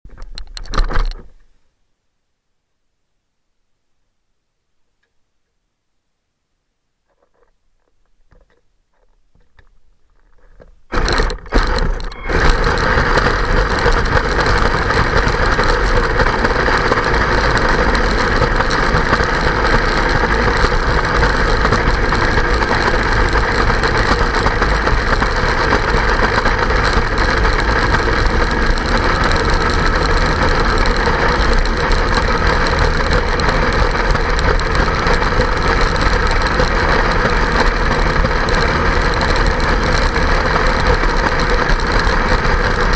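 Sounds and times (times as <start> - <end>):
toy snowcat motor and tracks: 7.1 - 42.9.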